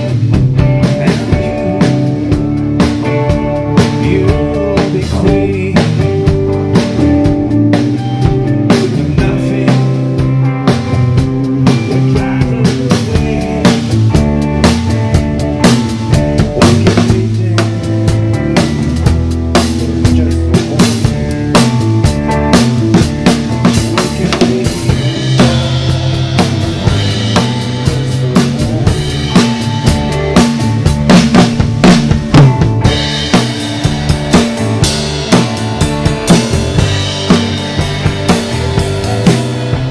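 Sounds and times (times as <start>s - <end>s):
bass notes: 0.0s - 39.9s
drum kit beat: 0.0s - 39.9s
electric guitar: 0.0s - 39.9s
live rock band playing: 0.0s - 39.9s.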